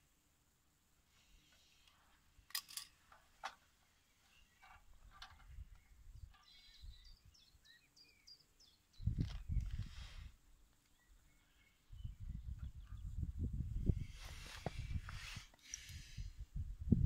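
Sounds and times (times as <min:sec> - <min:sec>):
faint bird chirping: 0:01.0 - 0:16.4.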